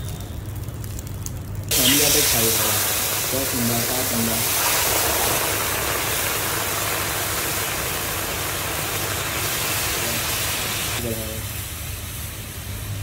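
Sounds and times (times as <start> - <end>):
food sizzling on hot griddle: 0.0 - 13.0.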